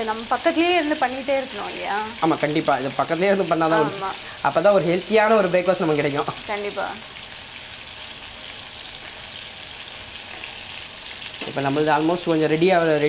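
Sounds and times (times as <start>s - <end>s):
chicken sizzling in frying pan: 0.0s - 13.0s
faint oil crackles: 0.0s - 13.0s.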